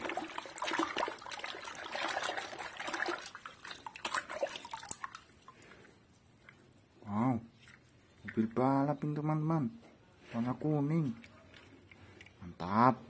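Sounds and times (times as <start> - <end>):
soapy water sloshing and splashing: 0.0 - 9.0, 10.3 - 12.6.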